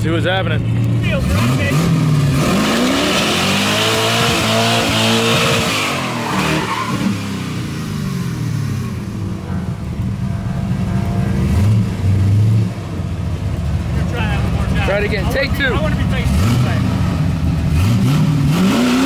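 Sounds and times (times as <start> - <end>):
pickup engine revving hard: 1.1 - 9.8, 10.7 - 19.0.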